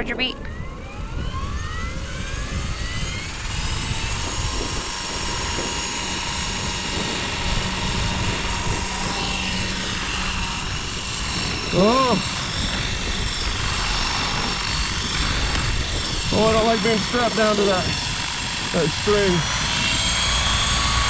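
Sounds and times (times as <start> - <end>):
helicopter motor and rotor whine: 0.0 - 21.0.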